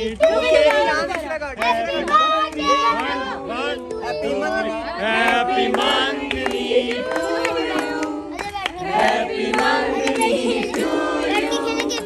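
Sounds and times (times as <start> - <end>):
hand claps: 0.0 - 4.5, 5.2 - 12.0
group singing and calling out: 0.0 - 12.0.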